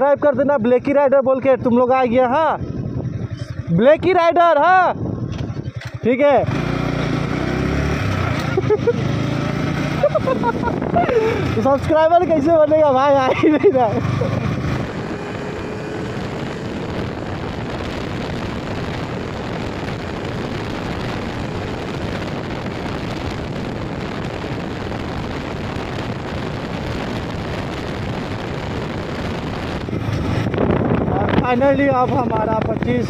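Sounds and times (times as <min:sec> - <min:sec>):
motorcycle engine: 0:00.0 - 0:33.0
road noise: 0:00.0 - 0:33.0
wind rushing on microphone: 0:00.0 - 0:33.0.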